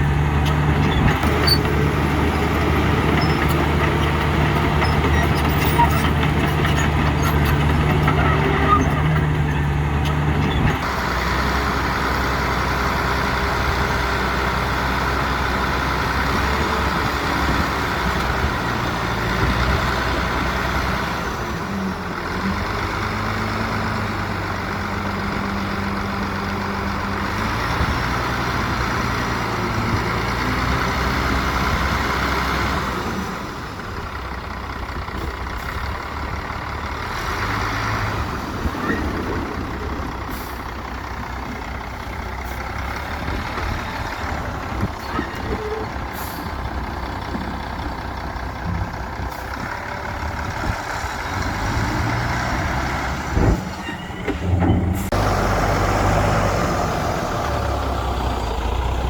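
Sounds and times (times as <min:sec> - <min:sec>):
diesel machinery engine running: 0:00.0 - 0:59.0.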